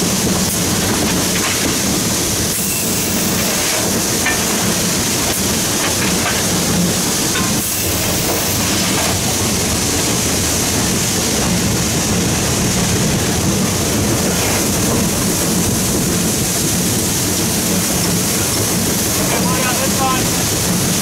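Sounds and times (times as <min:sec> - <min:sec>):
steam locomotive cab rumble: 0:00.0 - 0:21.0.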